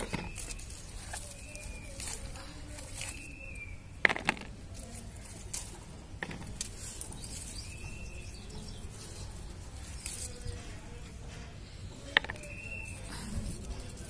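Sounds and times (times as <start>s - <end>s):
tomato plants rustling: 0.0s - 14.0s.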